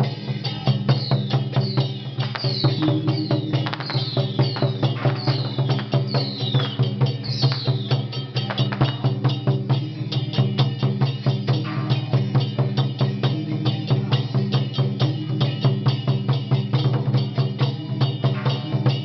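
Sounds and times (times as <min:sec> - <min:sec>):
drum and cymbals beat: 0:00.0 - 0:19.0.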